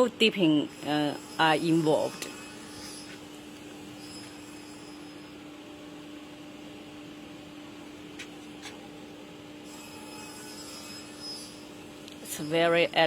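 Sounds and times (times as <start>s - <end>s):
appliance hum with hiss: 0.0s - 13.0s.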